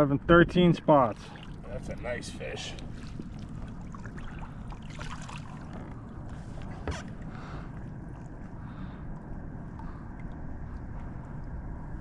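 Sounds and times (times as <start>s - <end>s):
wind and water rumble: 0.0s - 12.0s
faint splashes: 0.9s - 11.6s.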